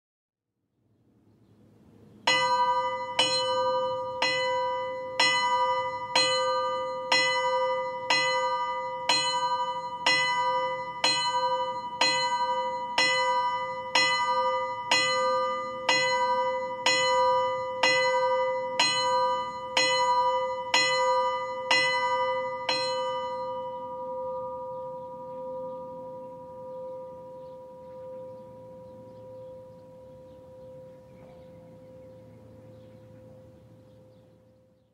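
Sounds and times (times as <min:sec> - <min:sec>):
bell tolling: 0:02.3 - 0:34.8
bell low hum: 0:02.3 - 0:34.9.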